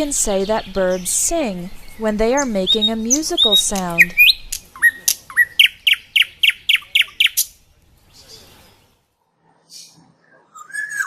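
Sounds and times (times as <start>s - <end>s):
songbird singing: 0.0s - 9.0s, 9.6s - 11.0s.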